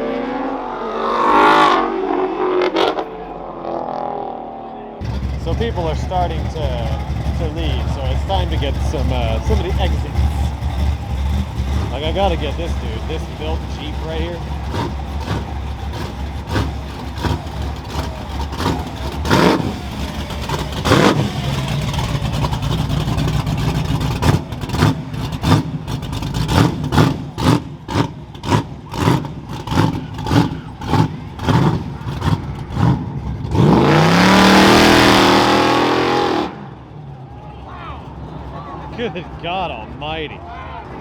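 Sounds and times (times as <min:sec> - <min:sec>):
car engine pulsing and revving: 0:00.0 - 0:41.0.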